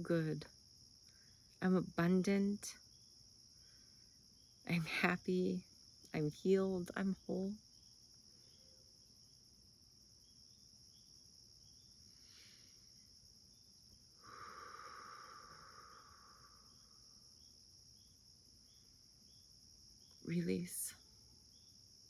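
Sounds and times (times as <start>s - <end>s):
faint crickets trilling: 0.0s - 22.0s.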